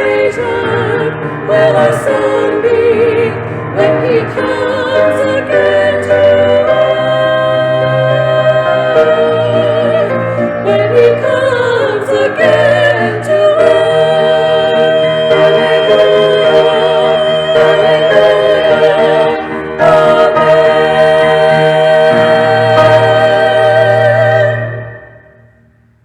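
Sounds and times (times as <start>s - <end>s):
choir singing held notes: 0.0s - 25.7s.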